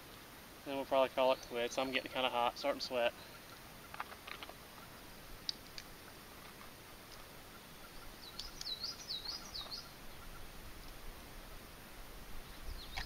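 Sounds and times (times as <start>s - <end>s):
faint open-air background noise: 0.0s - 13.0s.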